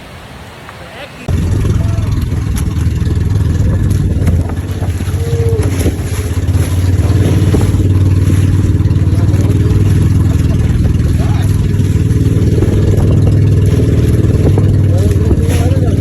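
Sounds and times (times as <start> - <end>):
vehicle engine running: 1.3 - 16.0.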